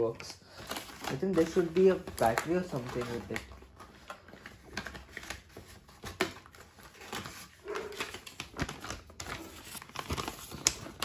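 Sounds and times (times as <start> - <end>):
cardboard packaging being handled: 0.0 - 11.0.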